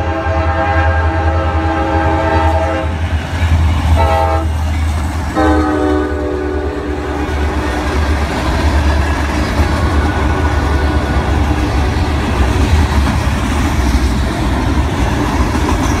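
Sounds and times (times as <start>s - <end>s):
freight cars rumbling on rails: 0.0s - 16.0s.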